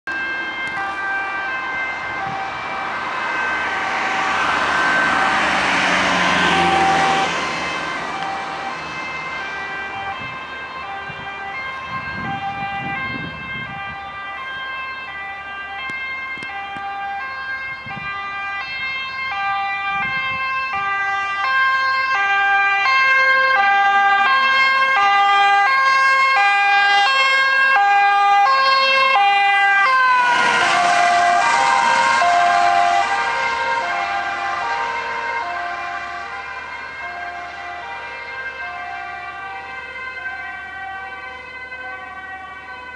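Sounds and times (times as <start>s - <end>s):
ambulance two-tone siren: 0.0s - 42.9s
passing car road noise: 0.1s - 42.9s.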